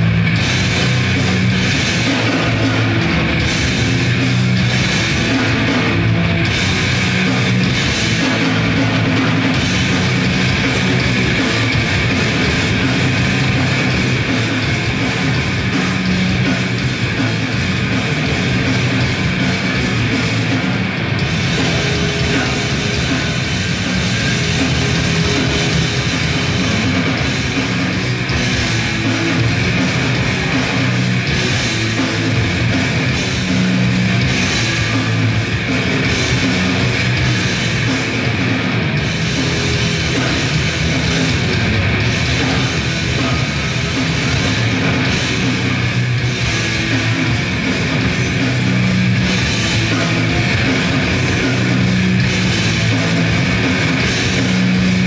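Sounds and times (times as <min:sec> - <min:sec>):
band playing live: 0:00.0 - 0:55.0.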